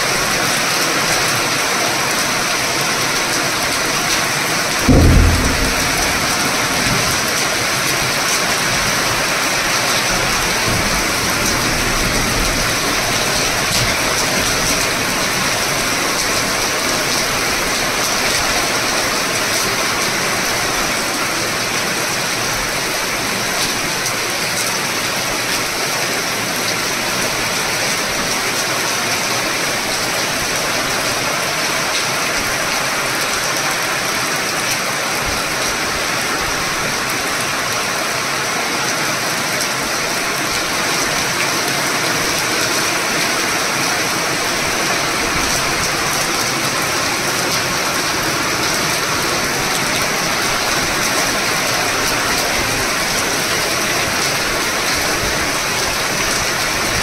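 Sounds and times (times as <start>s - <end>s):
heavy rain on leaves and paving: 0.0s - 57.0s.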